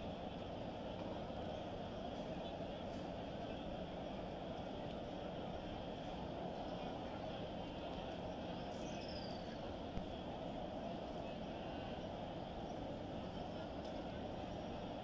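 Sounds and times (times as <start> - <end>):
crowd murmur: 0.0 - 15.0.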